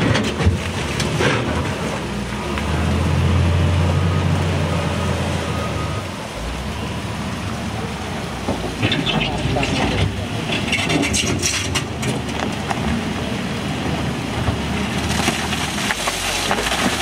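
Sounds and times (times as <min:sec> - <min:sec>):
diesel engine under work: 0:00.0 - 0:17.0.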